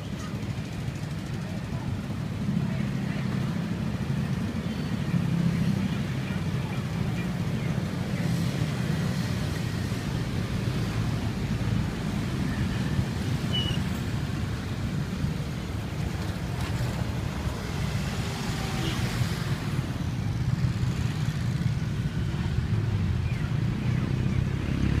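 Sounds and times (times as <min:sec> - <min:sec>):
motorcycles and cars passing: 0:00.0 - 0:25.0.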